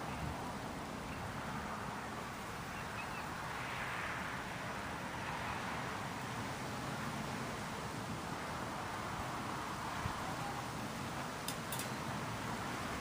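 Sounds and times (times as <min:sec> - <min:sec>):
distant street traffic: 0:00.0 - 0:13.0
wind: 0:00.0 - 0:13.0.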